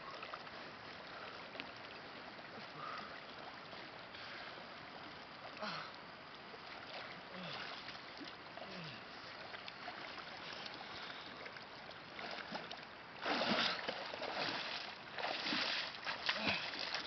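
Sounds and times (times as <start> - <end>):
water splashing and sloshing: 0.0 - 17.0
water swirling and lapping: 0.0 - 17.0.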